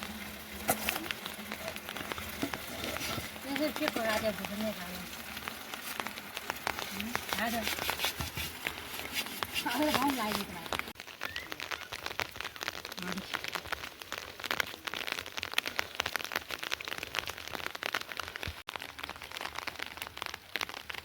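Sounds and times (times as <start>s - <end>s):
rain on hard surface: 0.0s - 21.0s.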